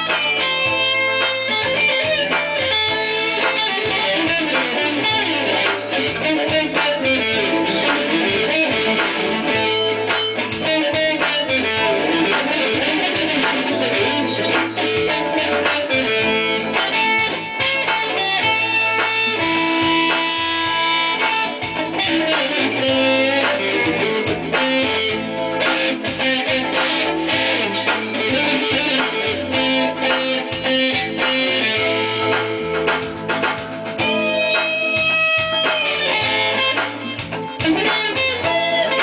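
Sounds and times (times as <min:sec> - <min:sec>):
low bass notes: 0:00.0 - 0:39.0
plucked guitar notes: 0:00.0 - 0:39.0.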